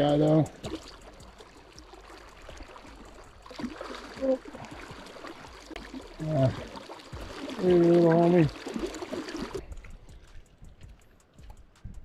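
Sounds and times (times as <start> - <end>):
stream water running over rocks: 0.0 - 10.5.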